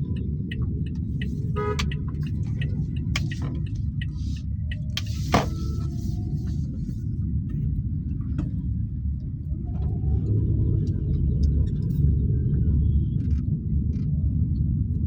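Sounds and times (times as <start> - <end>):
car driving in traffic: 0.0 - 15.0.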